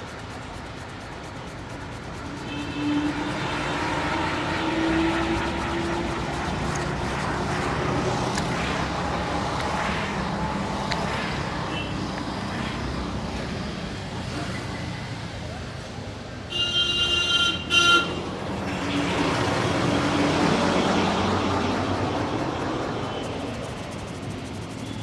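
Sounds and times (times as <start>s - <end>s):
road traffic: 0.0s - 25.0s
motor vehicle passing close: 1.9s - 15.6s, 18.1s - 25.0s.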